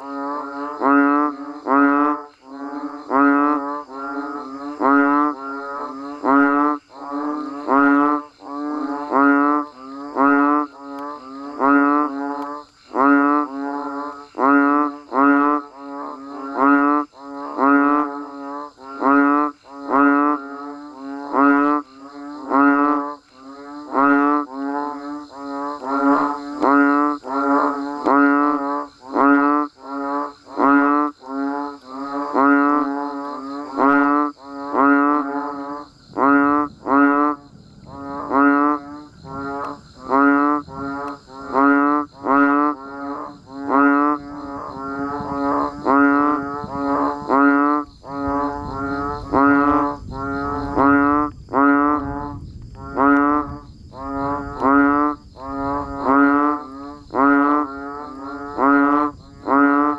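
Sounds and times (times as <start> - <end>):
frogs bleating calls: 0.0 - 59.9
low drone of frog chorus: 0.0 - 59.9.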